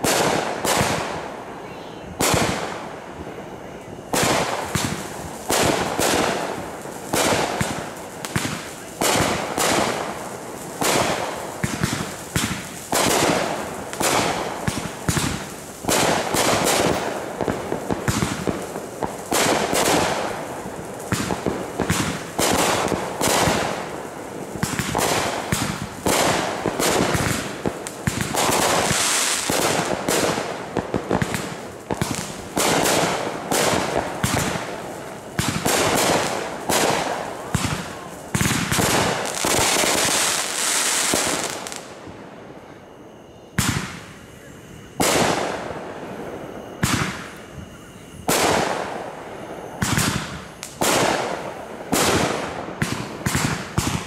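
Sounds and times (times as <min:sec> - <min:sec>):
aerial fireworks bursting: 0:00.0 - 0:54.0.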